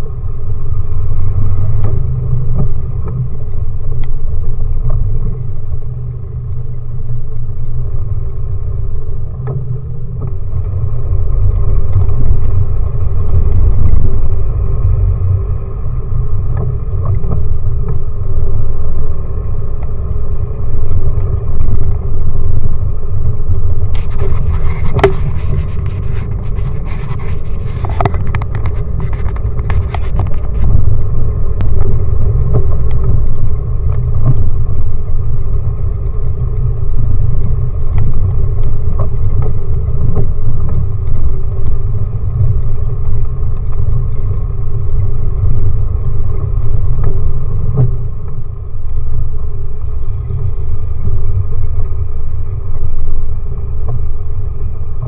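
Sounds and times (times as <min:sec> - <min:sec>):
off-road vehicle engine rumble: 0:00.0 - 0:55.0.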